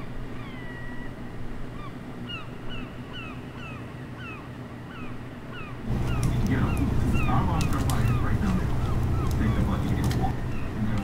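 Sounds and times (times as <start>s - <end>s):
birds calling: 0.0s - 11.0s
steady low hum: 0.0s - 11.0s.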